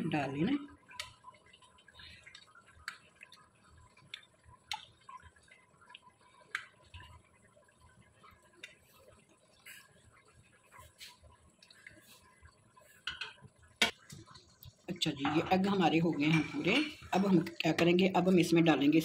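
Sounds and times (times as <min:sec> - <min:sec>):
soft dripping: 0:00.0 - 0:19.0.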